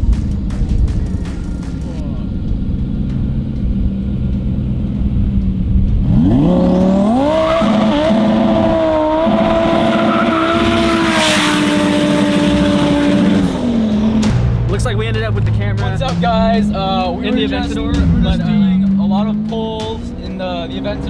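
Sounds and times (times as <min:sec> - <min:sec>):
car engine at full throttle: 0:00.0 - 0:21.0.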